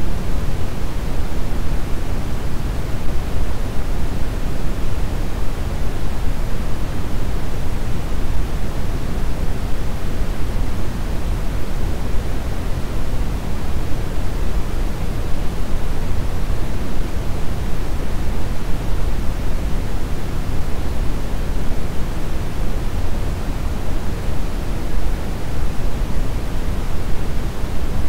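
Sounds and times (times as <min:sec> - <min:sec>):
brown noise hiss: 0:00.0 - 0:28.0.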